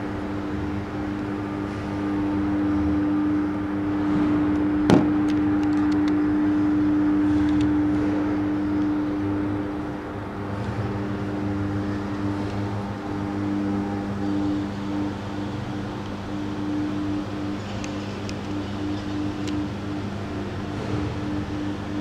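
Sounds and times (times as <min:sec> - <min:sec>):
city street traffic: 0:00.0 - 0:22.0
low mechanical hum: 0:00.0 - 0:22.0.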